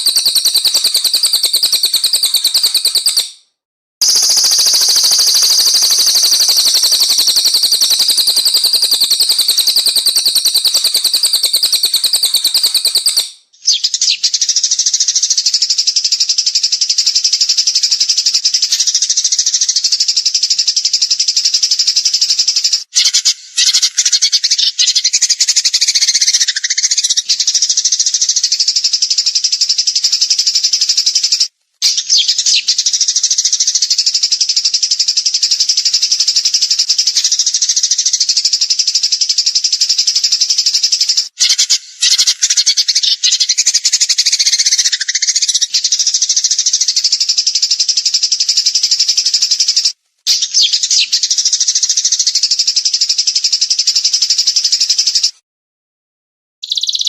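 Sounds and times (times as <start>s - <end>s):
songbird rapid trill: 0.0s - 55.4s, 56.6s - 57.0s.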